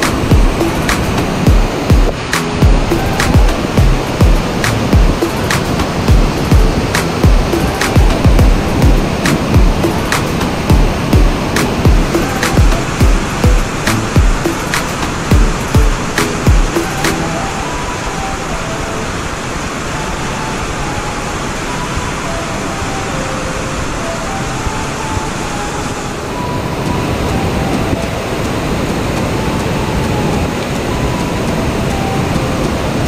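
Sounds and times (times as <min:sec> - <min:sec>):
waterfall rushing over rocks: 0:00.0 - 0:33.0.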